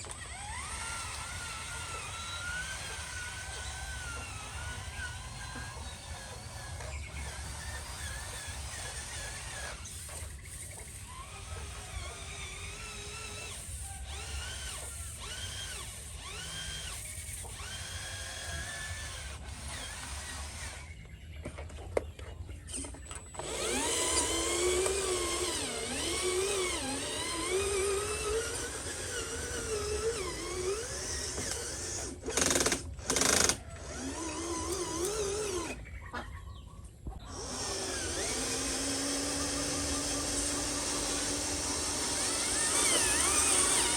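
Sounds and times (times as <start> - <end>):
small electric motors whining: 0.0 - 21.8, 22.6 - 36.0, 37.2 - 43.9.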